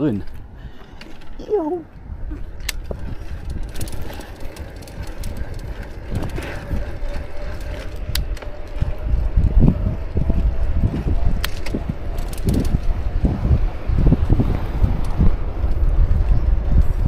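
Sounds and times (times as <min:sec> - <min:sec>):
bike clicks and rattles: 0:00.0 - 0:01.4, 0:02.0 - 0:17.0
wind buffeting microphone: 0:00.0 - 0:17.0
tyres rumbling on road: 0:02.4 - 0:17.0.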